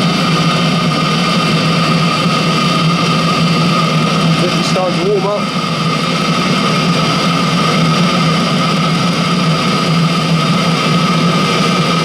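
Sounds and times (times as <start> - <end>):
diesel heater roaring: 0.0 - 12.0.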